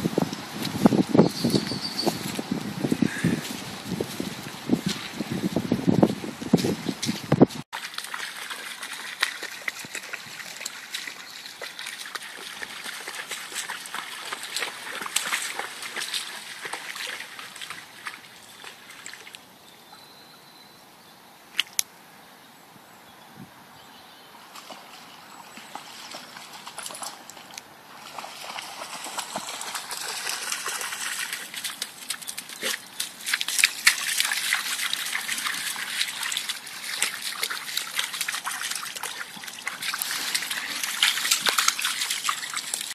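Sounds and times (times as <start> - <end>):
floodwater trickling and lapping: 0.0 - 20.0, 24.3 - 42.9.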